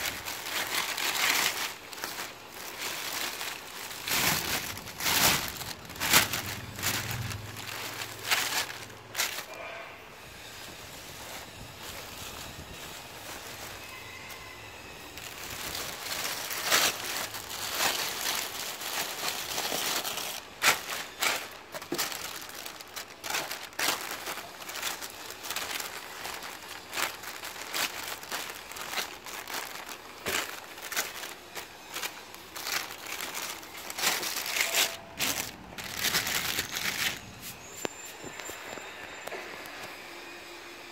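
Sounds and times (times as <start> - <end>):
plastic bag crinkling: 0.0 - 9.8, 10.6 - 40.0.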